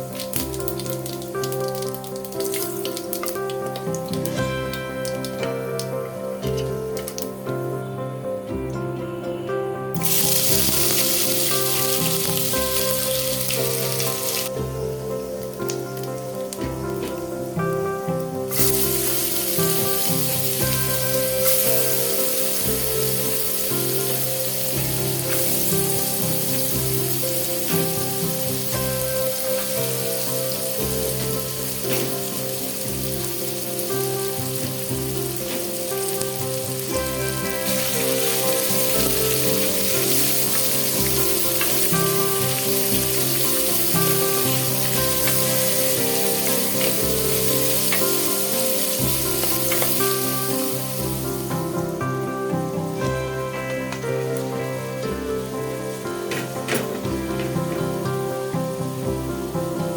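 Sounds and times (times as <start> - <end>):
food sizzling in hot oil: 0.0 - 7.7, 9.9 - 59.9
background music: 0.0 - 59.9.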